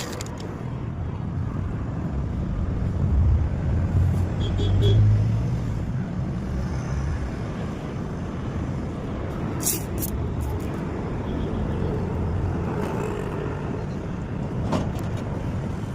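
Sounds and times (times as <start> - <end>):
vehicles rumbling: 0.0 - 15.9.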